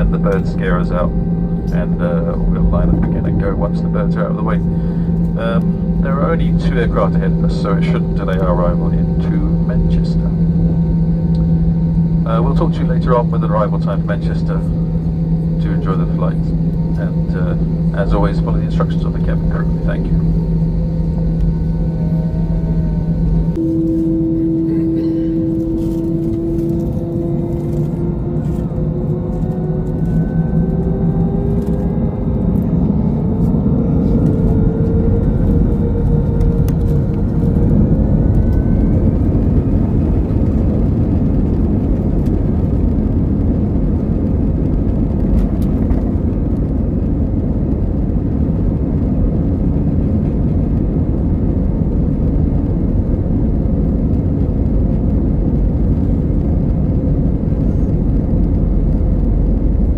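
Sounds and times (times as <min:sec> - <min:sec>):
jet engines spooling up: 0:00.0 - 0:59.9
takeoff roll roar and rumble: 0:00.0 - 0:59.9.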